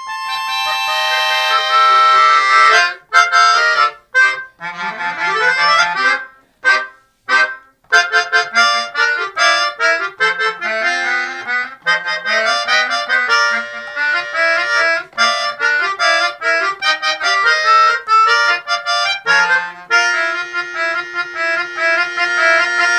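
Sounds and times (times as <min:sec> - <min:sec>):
melodica duet: 0:00.0 - 0:22.9.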